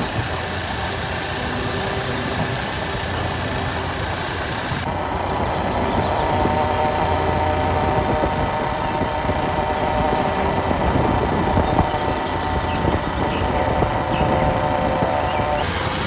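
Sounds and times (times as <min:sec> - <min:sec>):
motorbike engine running: 0:00.0 - 0:05.2, 0:06.0 - 0:16.0.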